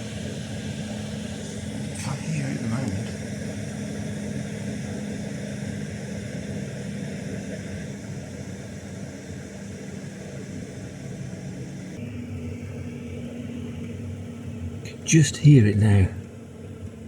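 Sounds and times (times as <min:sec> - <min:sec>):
air heater fan and burner hum: 0:00.0 - 0:17.0.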